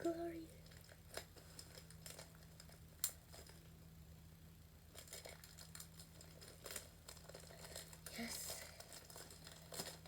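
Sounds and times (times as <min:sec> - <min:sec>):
packaging crinkling: 0:00.6 - 0:03.7, 0:04.9 - 0:10.0.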